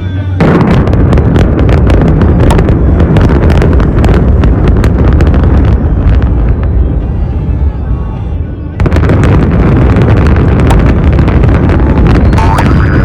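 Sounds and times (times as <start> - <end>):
heavy low rumble: 0.0 - 13.0
sharp detonation cracks: 0.4 - 6.7, 8.8 - 13.0.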